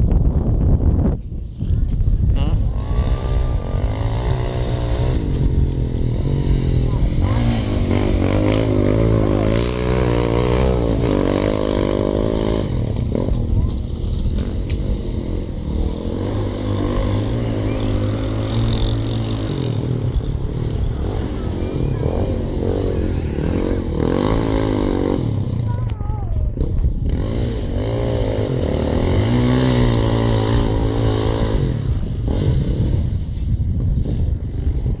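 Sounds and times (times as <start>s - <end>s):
motorcycle engine revving: 1.8s - 35.0s.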